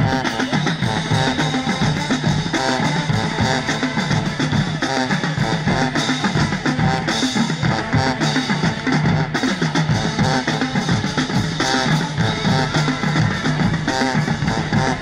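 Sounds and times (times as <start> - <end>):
snare and bass drums cadence: 0.0 - 15.0.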